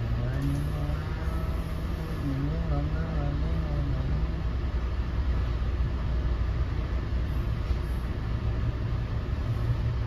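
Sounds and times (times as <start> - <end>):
train coach rumbling: 0.0 - 10.0.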